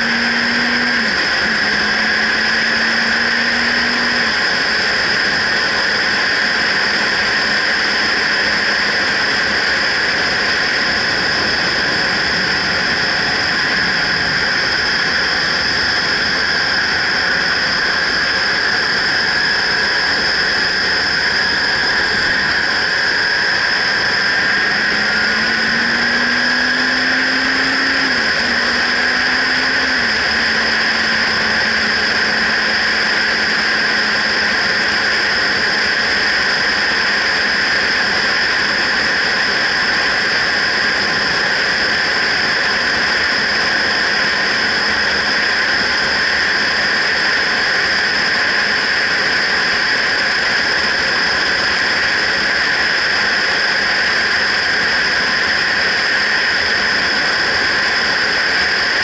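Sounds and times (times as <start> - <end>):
motorcycle engine: 0.0 - 59.0
wind rush on camera: 0.0 - 59.0.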